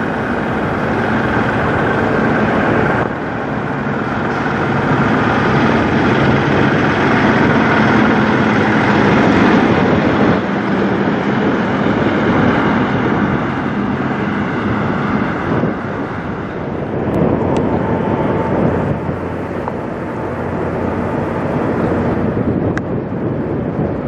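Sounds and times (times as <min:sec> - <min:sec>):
truck diesel engine driving past: 0:00.0 - 0:24.0.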